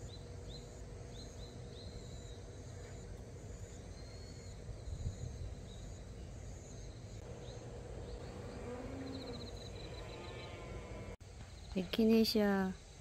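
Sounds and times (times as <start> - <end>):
insects chirping in trills: 0.0 - 13.0.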